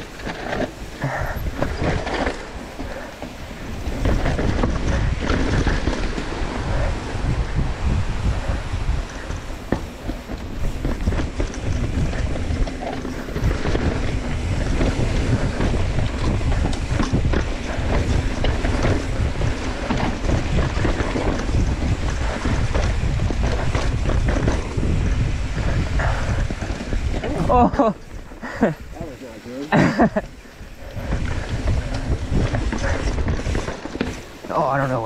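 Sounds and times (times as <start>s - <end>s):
bike knocks and rattles: 0.0s - 35.0s
tyres rolling over dirt: 0.0s - 35.0s
wind rushing over microphone: 0.0s - 35.0s.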